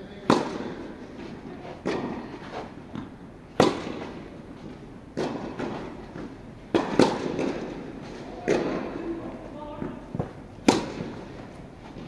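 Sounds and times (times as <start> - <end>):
tennis balls struck and bouncing: 0.2 - 9.1, 9.8 - 12.0.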